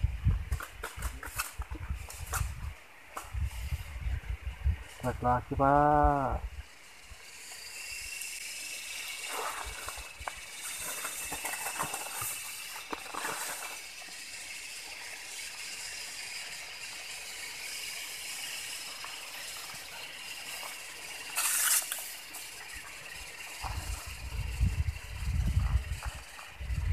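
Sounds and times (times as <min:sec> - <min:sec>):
rustling hiss: 0:00.0 - 0:26.9
insects chirring: 0:00.7 - 0:26.9.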